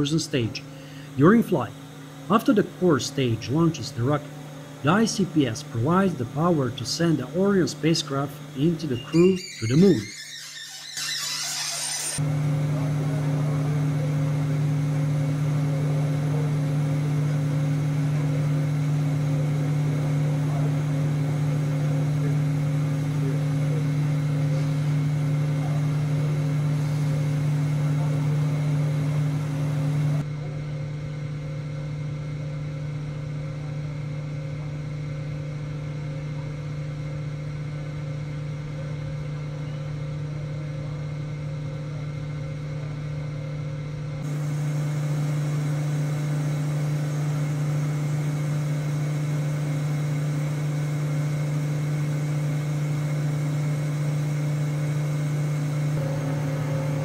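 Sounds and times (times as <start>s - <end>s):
welding machine mechanical hum: 0.0s - 57.0s.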